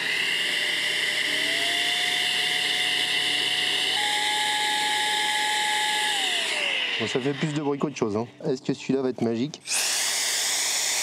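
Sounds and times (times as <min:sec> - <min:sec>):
air blower rushing and whining: 0:00.0 - 0:08.4, 0:09.6 - 0:11.0.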